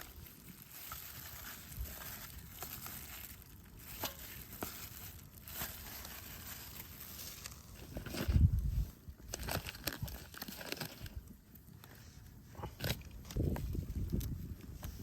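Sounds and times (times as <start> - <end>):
crinkling and rustling handling: 0.0 - 15.0.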